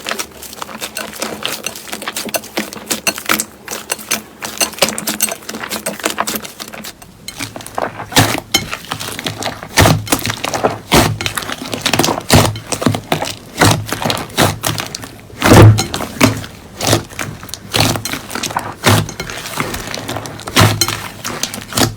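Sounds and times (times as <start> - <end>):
deep slime squishes: 0.0 - 21.9.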